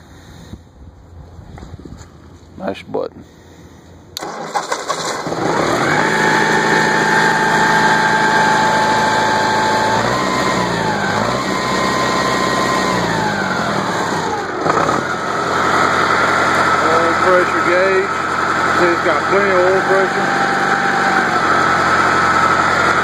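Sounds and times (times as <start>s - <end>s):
tractor engine cranking and running: 4.2s - 23.0s.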